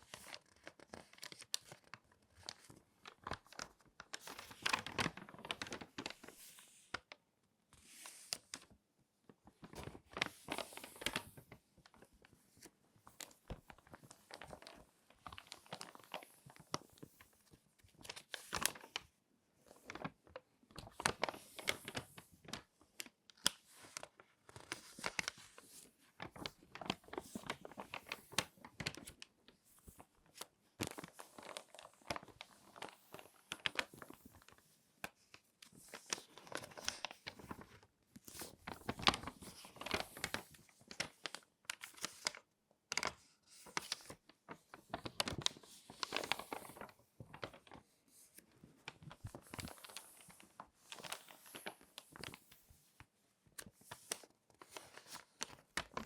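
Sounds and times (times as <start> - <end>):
magazine pages crinkling: 0.0 - 7.1, 9.4 - 56.0.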